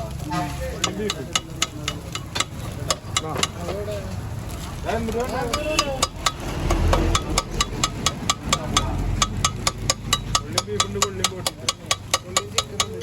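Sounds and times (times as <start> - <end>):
voices: 0.0 - 13.0
metal spatulas clattering on griddle: 0.3 - 4.2, 4.8 - 13.0.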